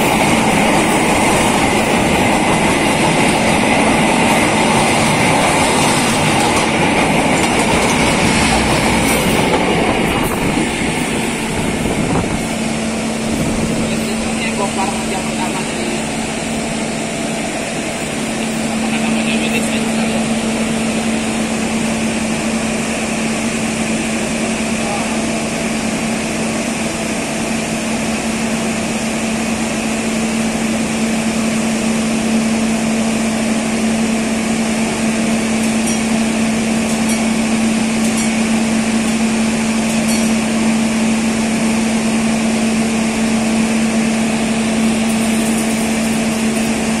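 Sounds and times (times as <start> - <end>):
diesel train engine idling: 0.0 - 47.0.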